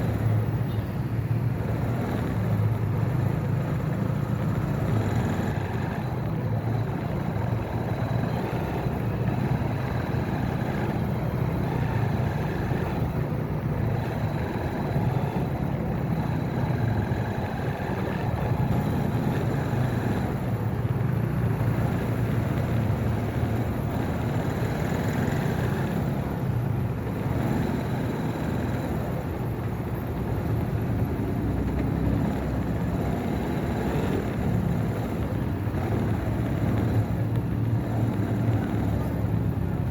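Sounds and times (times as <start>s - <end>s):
low rumble of road noise: 0.0s - 39.9s
motorcycle engine running: 0.0s - 39.9s.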